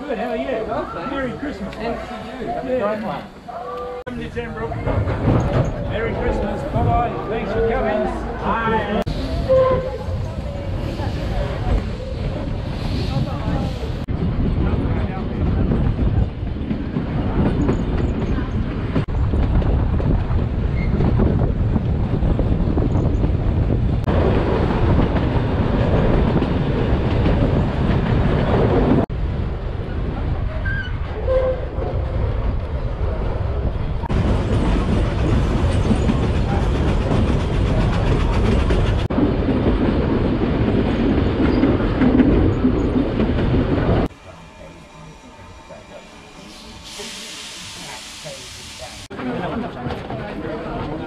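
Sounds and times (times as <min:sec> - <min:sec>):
train wheels on rails: 0:03.8 - 0:29.1, 0:29.7 - 0:51.0.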